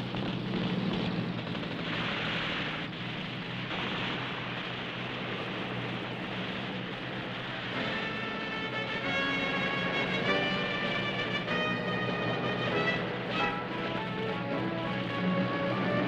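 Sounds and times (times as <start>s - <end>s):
low engine hum: 0.0s - 16.0s
vehicle convoy rumble: 0.0s - 16.0s.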